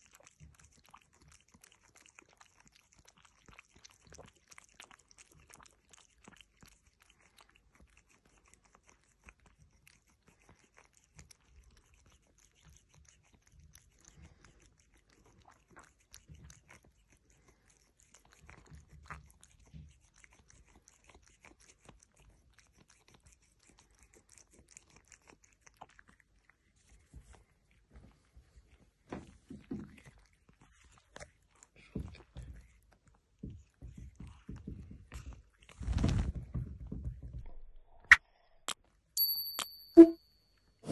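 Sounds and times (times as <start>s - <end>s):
cat sucking and chewing bottle: 0.0s - 37.3s.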